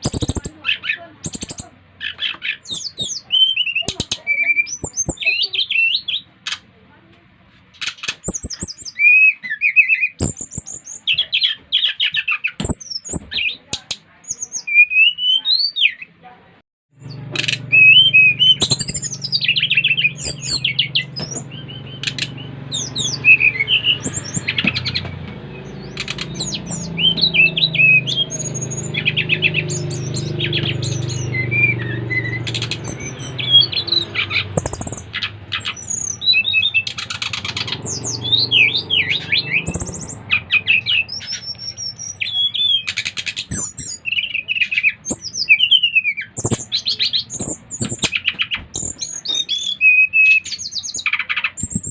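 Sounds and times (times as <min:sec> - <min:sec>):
bird singing chirps and trills: 0:00.0 - 0:06.7, 0:07.8 - 0:16.2, 0:17.0 - 0:51.9.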